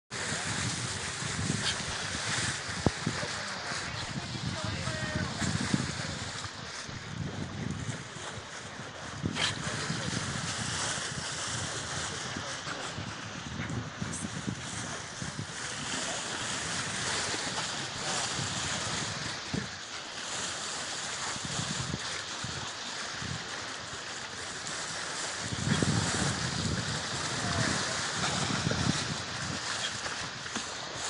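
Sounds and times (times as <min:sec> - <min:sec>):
water rushing along a hull: 0:00.1 - 0:31.0
wind buffeting microphone: 0:00.1 - 0:31.0.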